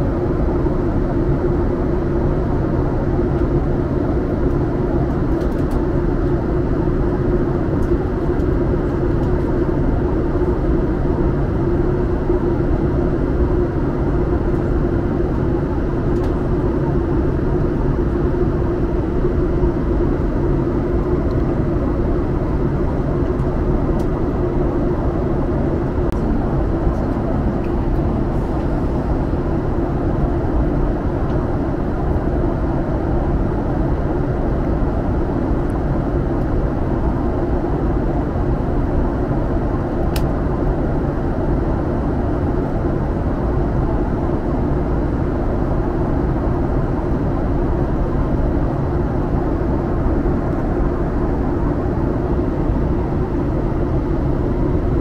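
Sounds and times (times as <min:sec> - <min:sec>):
airliner cabin drone: 0:00.0 - 0:55.0
steady hum: 0:00.0 - 0:55.0.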